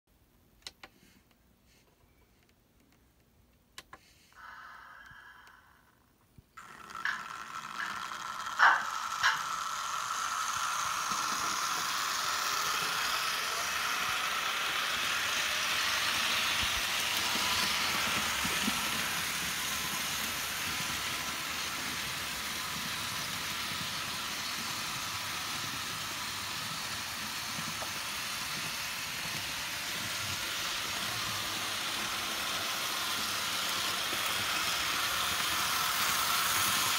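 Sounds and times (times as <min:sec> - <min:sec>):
model train running rattle: 0:06.6 - 0:36.9
thin motor whine: 0:06.6 - 0:36.9.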